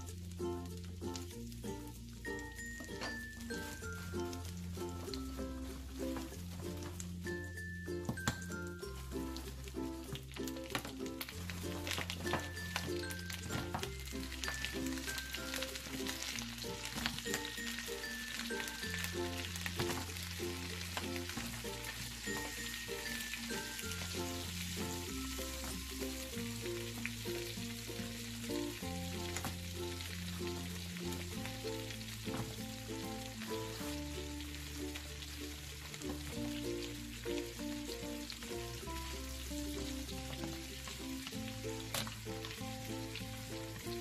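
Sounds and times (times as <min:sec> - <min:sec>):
butter sizzling in a pan: 0:00.0 - 0:44.0.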